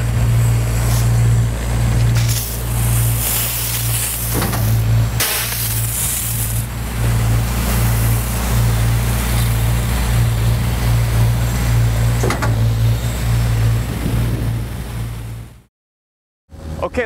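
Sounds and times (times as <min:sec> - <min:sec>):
truck engine hum: 0:00.0 - 0:15.7, 0:16.5 - 0:17.0.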